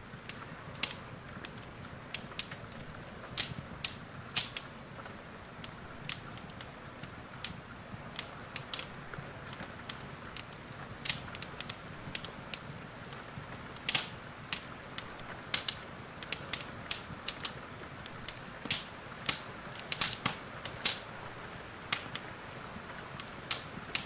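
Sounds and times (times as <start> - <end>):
rain hissing: 0.0 - 24.0
wood fire crackling: 0.0 - 24.0.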